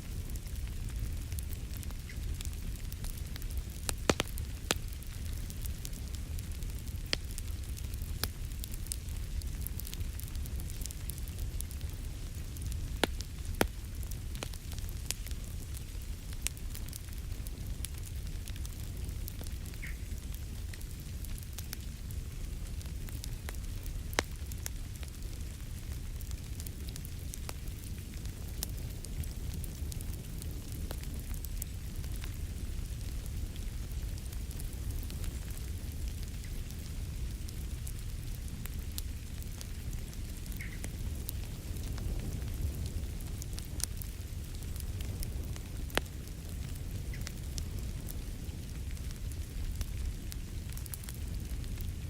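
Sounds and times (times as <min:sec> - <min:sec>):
fire low rumble: 0:00.0 - 0:52.0
wood fire crackling: 0:00.0 - 0:52.0.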